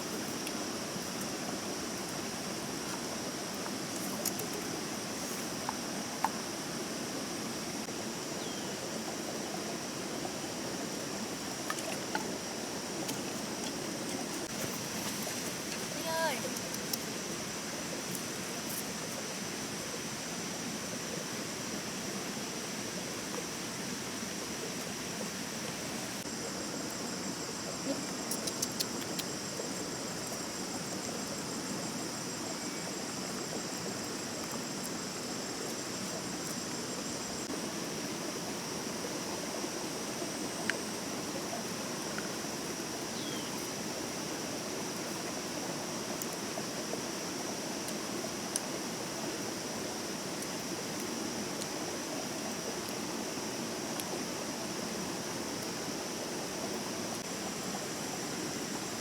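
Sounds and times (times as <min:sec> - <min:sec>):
high insect drone: 0:00.0 - 0:59.0
stream rushing over rocks: 0:00.0 - 0:59.0.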